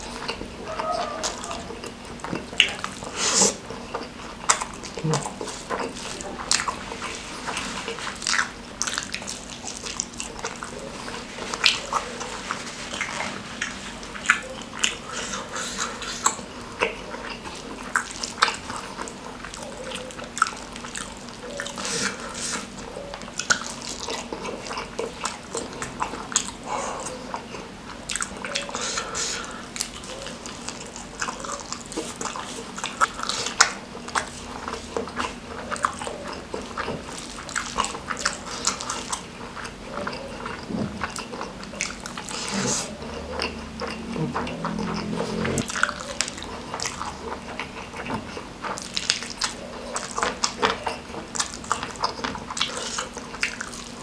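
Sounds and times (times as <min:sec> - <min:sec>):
wet chewing and lip smacking: 0:00.0 - 0:54.0.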